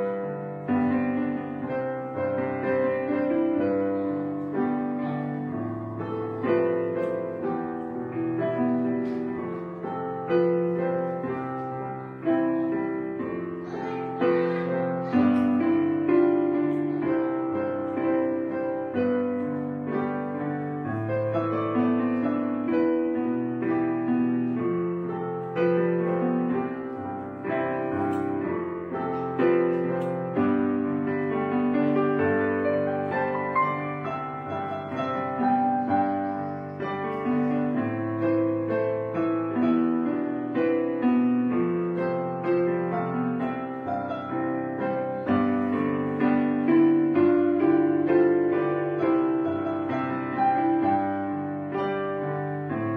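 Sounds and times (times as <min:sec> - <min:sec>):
gentle piano music: 0:00.0 - 0:52.9.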